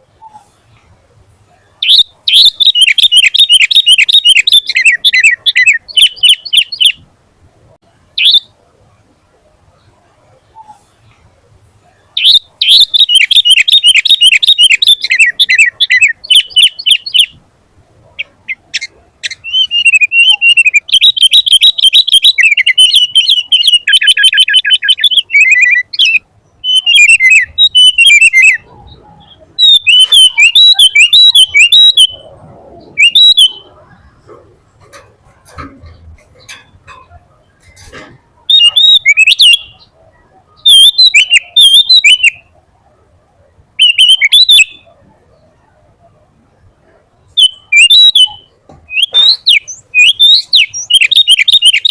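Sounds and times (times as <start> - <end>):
bulbul singing: 1.8 - 7.1, 7.9 - 8.6, 11.9 - 42.6, 43.8 - 45.5, 47.3 - 51.9.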